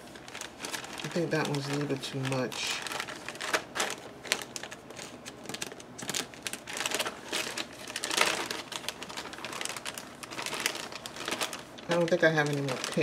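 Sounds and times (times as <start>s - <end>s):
bags and ribbon rustling: 0.0s - 13.0s.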